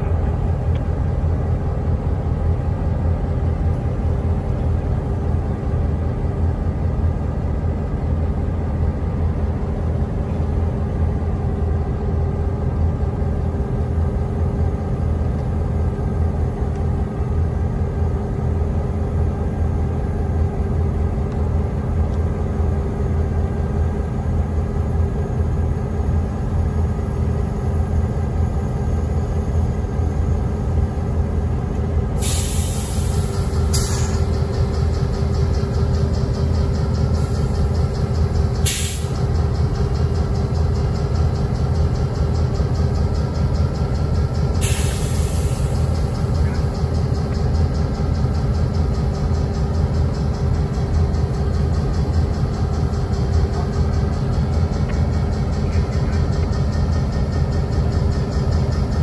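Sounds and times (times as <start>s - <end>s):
diesel locomotives idling: 0.0s - 59.0s.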